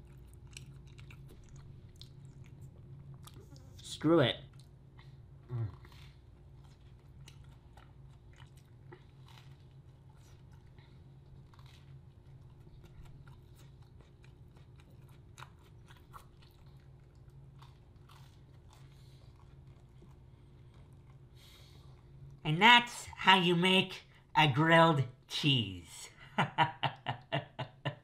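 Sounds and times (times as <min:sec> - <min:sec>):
chewing and crunching sandwich: 0:00.0 - 0:22.4
steady low hum: 0:00.0 - 0:28.0.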